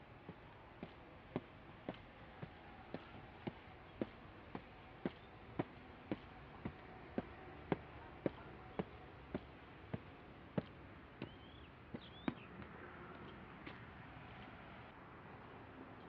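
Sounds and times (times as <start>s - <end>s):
footsteps on stone steps: 0.0s - 14.5s.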